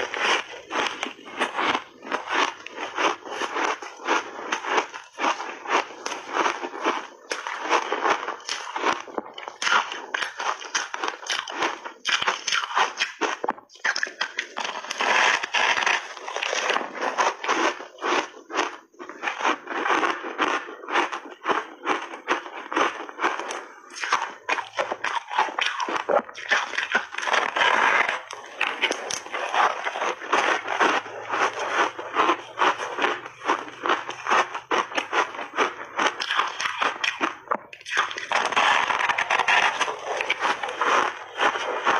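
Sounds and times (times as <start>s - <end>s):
crunching ice chewing: 0.0s - 41.9s.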